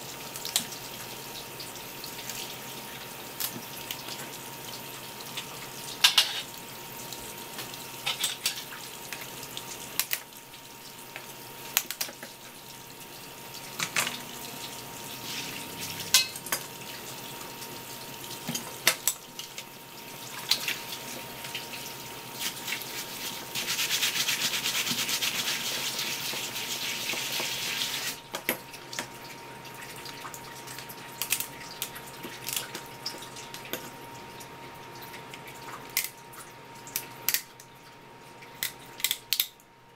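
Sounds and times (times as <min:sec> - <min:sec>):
water running from tap: 0:00.0 - 0:39.0.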